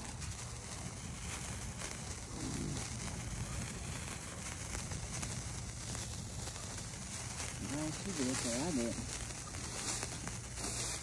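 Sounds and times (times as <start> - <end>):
fire burning: 0.0 - 11.0
sparkler fizzing and crackling: 0.0 - 11.0.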